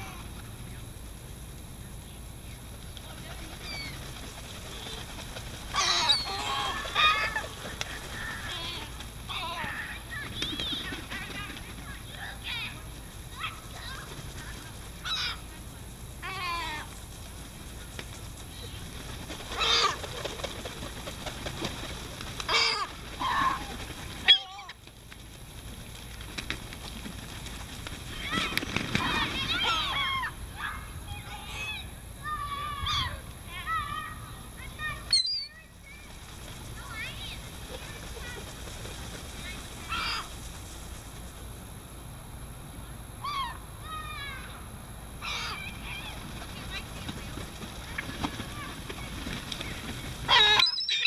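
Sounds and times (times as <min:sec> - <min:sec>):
gulls calling harshly: 0:03.1 - 0:24.9, 0:28.0 - 0:40.5, 0:43.2 - 0:44.6, 0:45.2 - 0:51.0.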